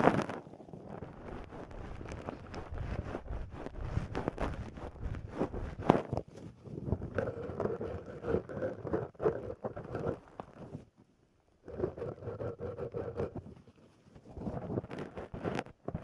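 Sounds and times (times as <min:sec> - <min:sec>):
brush scratching microphone: 0:00.2 - 0:10.8, 0:11.7 - 0:16.0.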